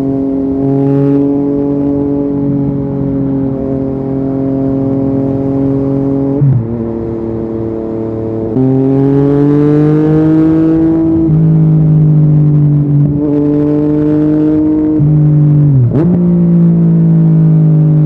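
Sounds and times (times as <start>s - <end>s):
motorcycle engine under way: 0.0s - 18.0s.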